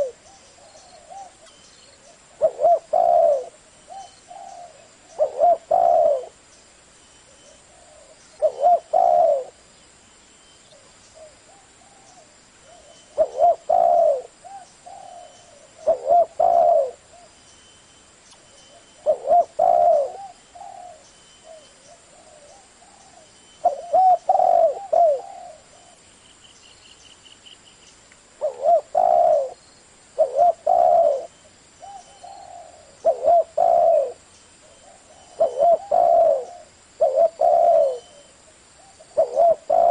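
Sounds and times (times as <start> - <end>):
dove cooing: 0.0 - 6.4, 7.4 - 9.6, 10.8 - 17.4, 18.7 - 26.0, 28.4 - 29.6, 30.2 - 39.9.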